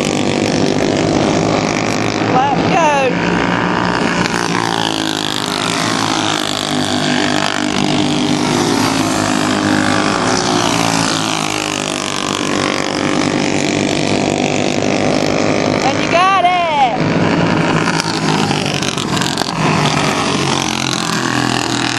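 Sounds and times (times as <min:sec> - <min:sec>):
racing engines passing: 0:00.0 - 0:21.9.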